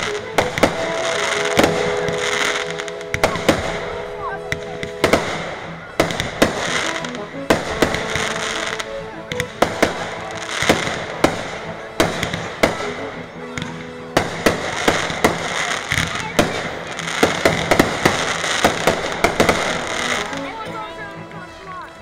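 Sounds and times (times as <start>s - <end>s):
firework bangs: 0.0s - 20.6s
firework crackling: 0.0s - 22.0s.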